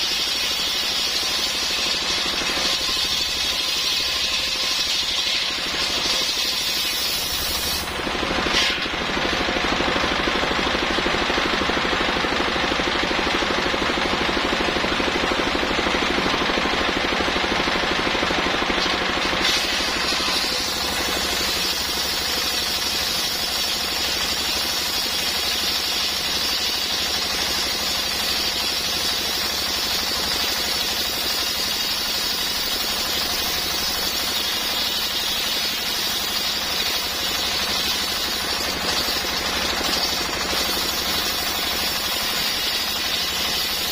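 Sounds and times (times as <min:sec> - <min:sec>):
circular saw cutting wood: 0:00.0 - 0:12.4, 0:13.0 - 0:43.9.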